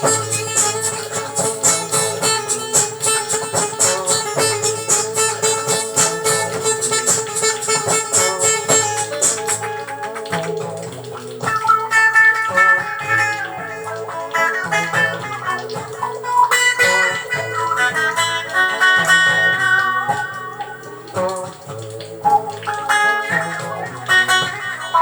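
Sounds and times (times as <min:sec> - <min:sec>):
plucked guitar notes: 0:00.0 - 0:25.0.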